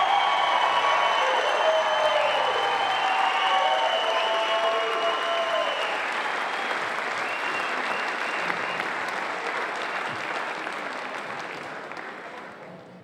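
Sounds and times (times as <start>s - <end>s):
applause: 0.0s - 13.0s.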